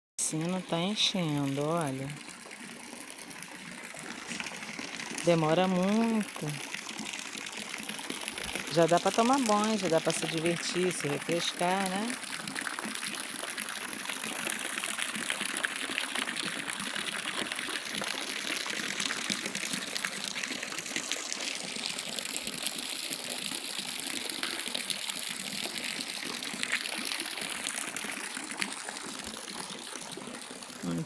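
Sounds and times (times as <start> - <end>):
water gushing into pool: 0.2 - 31.0.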